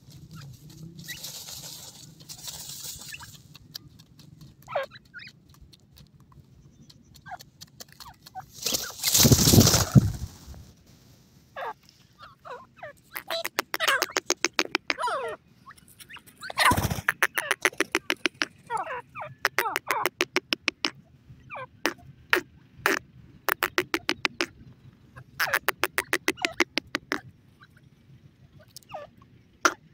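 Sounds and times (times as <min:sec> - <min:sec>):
birds chattering calls: 0:00.0 - 0:09.9, 0:11.6 - 0:29.9.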